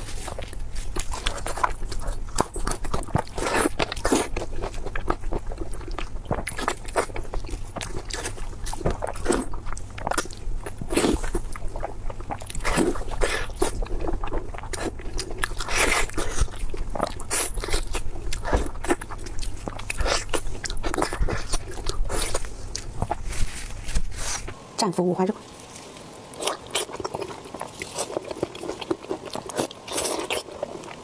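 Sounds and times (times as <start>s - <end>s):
chewing crunchy food: 0.0s - 24.6s, 25.5s - 31.0s.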